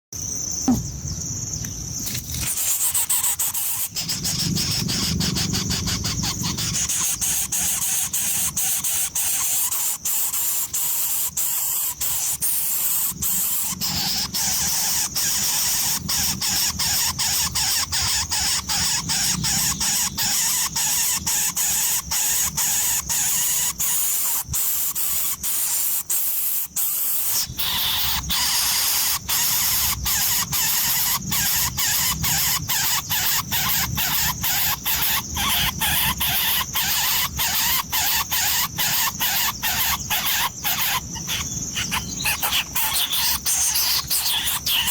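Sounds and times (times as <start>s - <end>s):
nestlings squealing: 2.3s - 44.9s.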